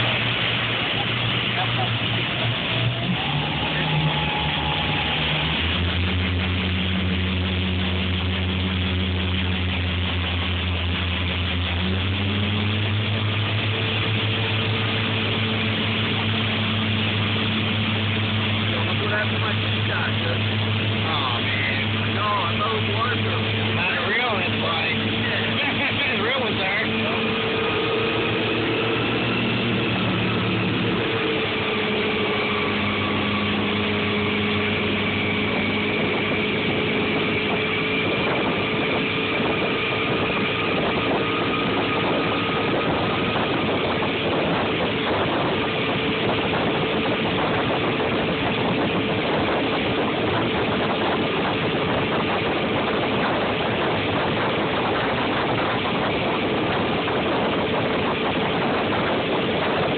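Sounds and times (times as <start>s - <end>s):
motorboat engine running: 0.0s - 59.9s
water noise: 0.0s - 59.9s
wind: 0.0s - 59.9s.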